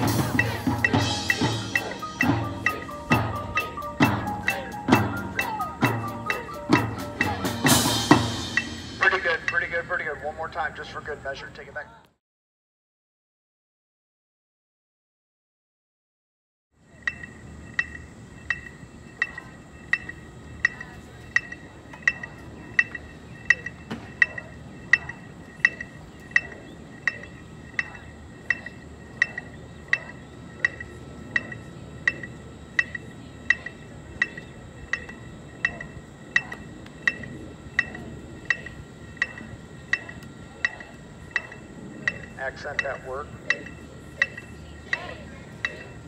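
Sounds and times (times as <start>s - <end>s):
electronic metronome beeping: 0.0s - 10.2s, 16.9s - 46.0s
outdoor background noise: 0.0s - 12.2s, 16.7s - 46.0s.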